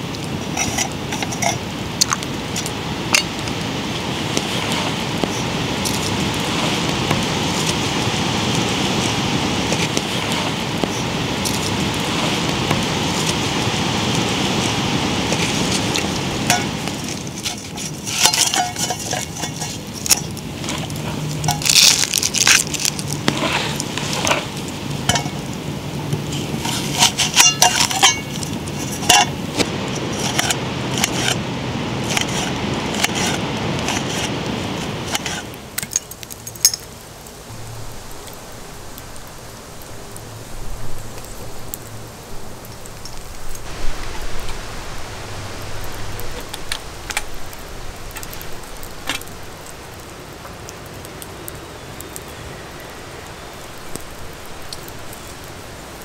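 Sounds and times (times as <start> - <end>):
fire crackling: 0.0 - 56.0
wood fire hissing: 0.0 - 56.0.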